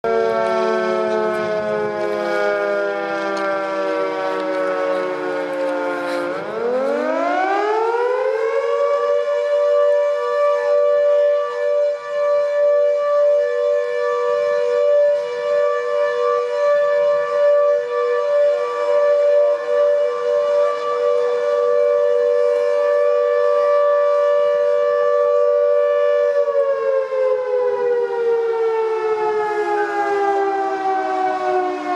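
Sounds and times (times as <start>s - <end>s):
siren wailing: 0.0s - 31.9s.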